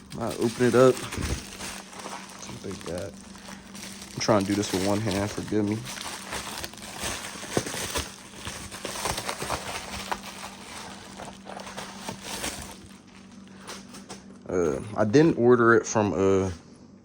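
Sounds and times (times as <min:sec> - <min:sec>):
packaging clicking and rustling: 0:00.0 - 0:14.2
faint steady hum: 0:00.0 - 0:17.0.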